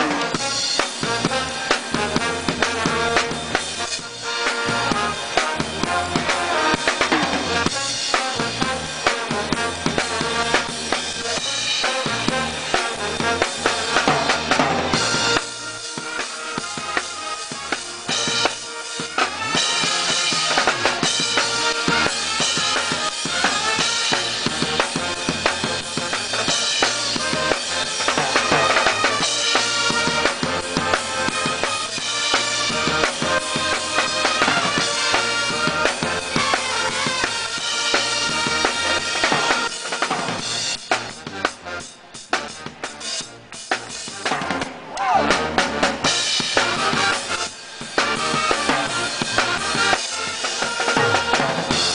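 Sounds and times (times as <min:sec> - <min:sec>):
drums playing busy rhythm: 0:00.0 - 0:51.9
pitched percussion parts: 0:00.0 - 0:51.9.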